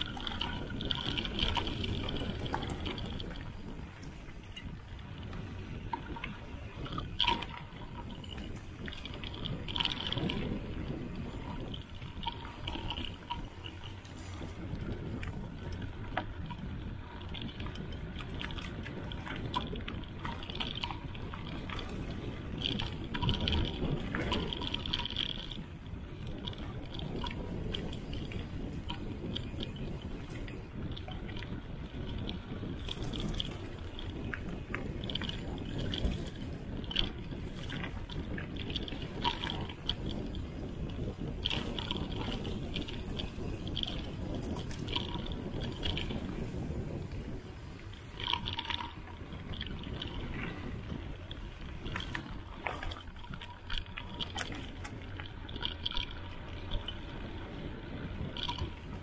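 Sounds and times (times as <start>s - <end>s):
bike clicks and rattles: 0.0s - 59.0s
bike tyres rumbling on dirt: 0.0s - 59.0s.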